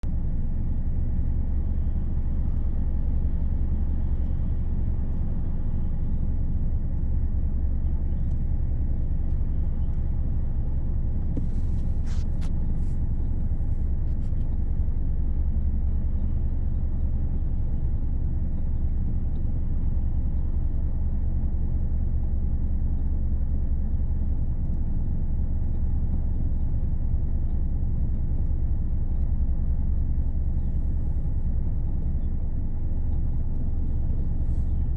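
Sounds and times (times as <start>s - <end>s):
car low rumble: 0.0s - 34.9s.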